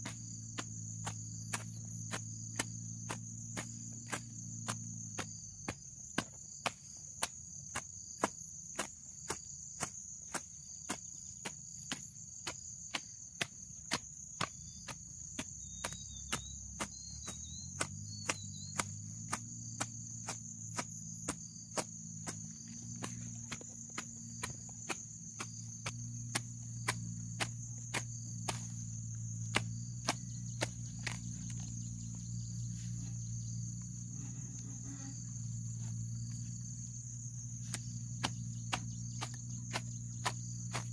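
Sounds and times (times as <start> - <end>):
crickets droning: 0.0 - 40.9
hoe chopping into soil: 0.0 - 40.9.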